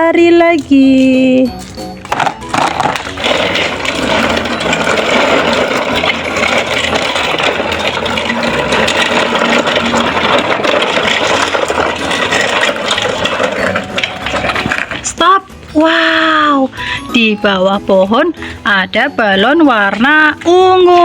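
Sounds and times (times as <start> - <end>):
plastic toy cars rattling: 0.5 - 15.9, 19.0 - 21.0
toy truck wheels rolling: 0.6 - 15.9, 18.6 - 21.0.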